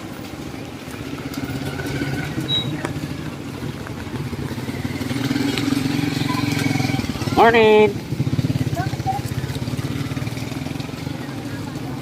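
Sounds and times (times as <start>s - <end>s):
small motorcycle engine running: 0.9s - 12.0s.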